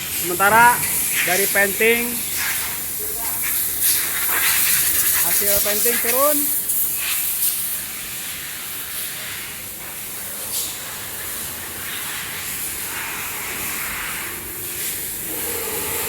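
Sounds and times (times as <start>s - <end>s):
air and paint spray hissing: 0.0s - 16.0s.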